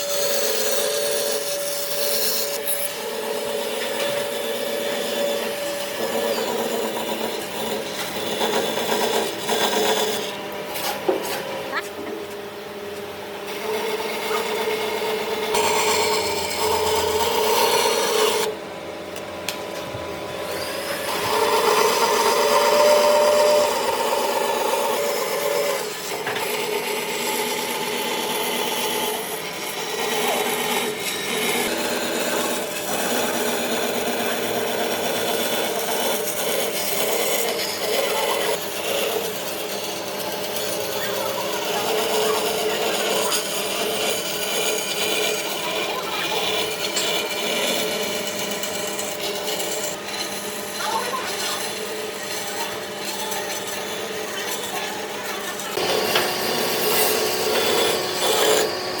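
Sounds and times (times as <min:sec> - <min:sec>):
tool rasping against wood: 0:00.0 - 0:11.9, 0:20.4 - 0:59.0.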